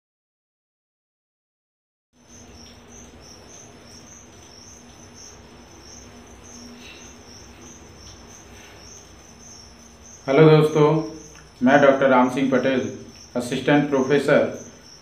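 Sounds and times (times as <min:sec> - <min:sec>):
cricket chirping: 0:02.2 - 0:15.0.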